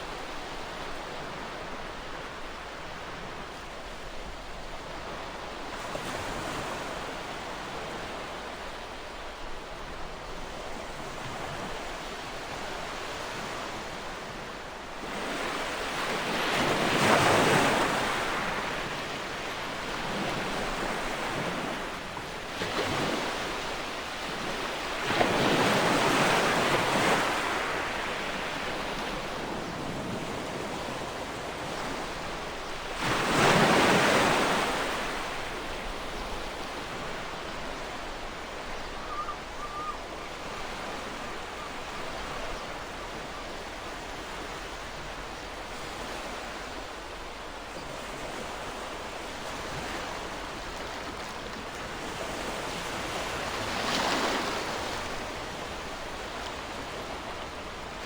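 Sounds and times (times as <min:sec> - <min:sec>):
ocean waves breaking: 0:10.6 - 0:58.0.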